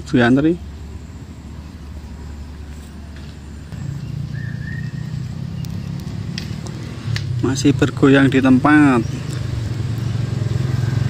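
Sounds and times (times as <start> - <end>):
motor engine drone: 0.0 - 11.0.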